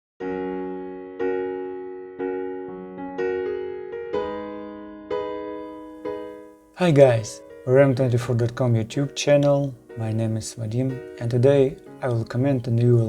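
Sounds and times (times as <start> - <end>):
electric piano chords: 0.2 - 13.0.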